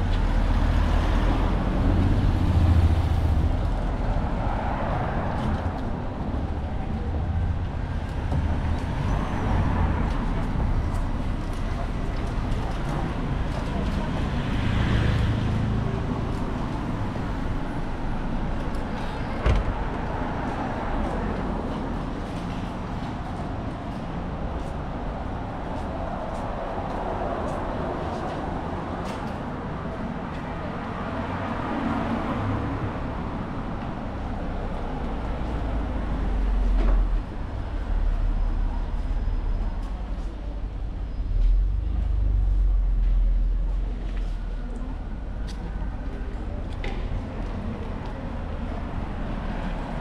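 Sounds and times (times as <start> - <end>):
street traffic: 0.0 - 50.0
vehicle deep rumble: 0.0 - 50.0.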